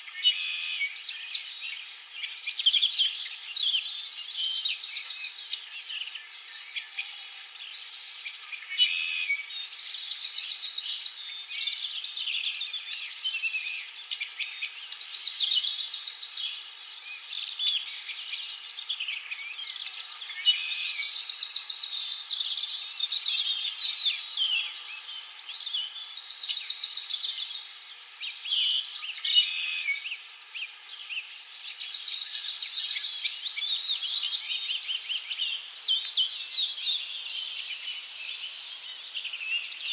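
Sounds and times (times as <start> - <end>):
faint hiss: 0.0 - 39.9
songbirds chirping and singing: 0.0 - 39.9.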